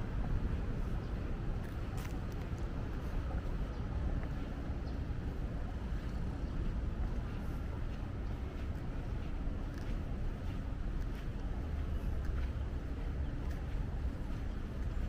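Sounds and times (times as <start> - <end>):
road traffic rumble: 0.0 - 15.0
wind buffeting microphone: 0.0 - 15.0.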